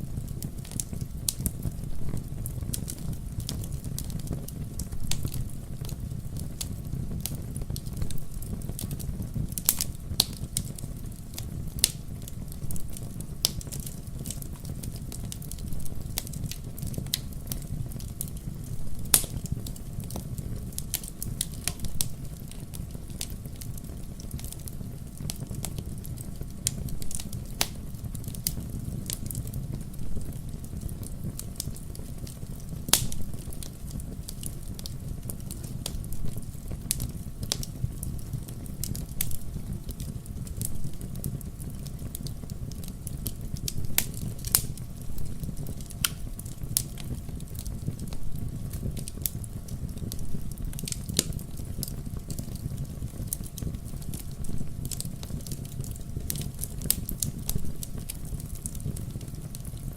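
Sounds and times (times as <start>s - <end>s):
logs burning with crackles and pops: 0.0s - 59.9s.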